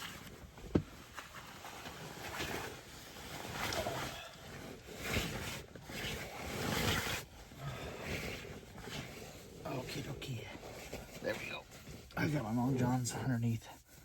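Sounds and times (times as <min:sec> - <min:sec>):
clothing rustling: 0:00.0 - 0:14.0.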